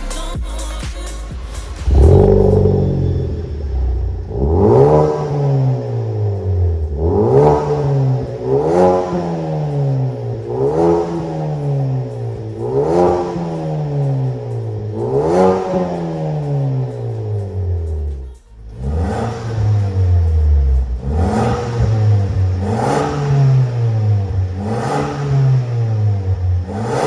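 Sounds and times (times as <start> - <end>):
car engine revving: 1.6 - 27.0.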